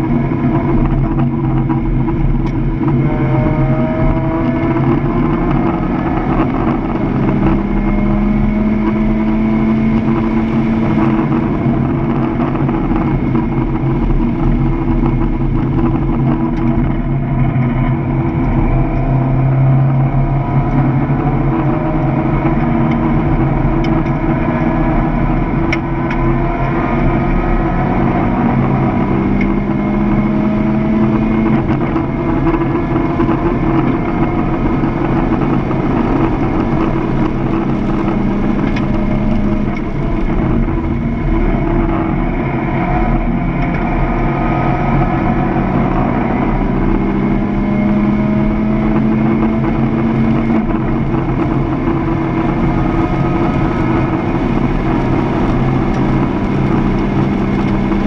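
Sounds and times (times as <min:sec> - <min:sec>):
car engine revving: 0:00.0 - 0:58.0
road and wind noise: 0:00.0 - 0:58.0.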